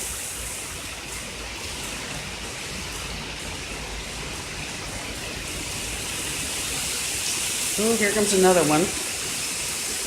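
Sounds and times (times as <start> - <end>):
heavy rain pouring: 0.0 - 10.0
water sheeting off roof: 0.0 - 10.0.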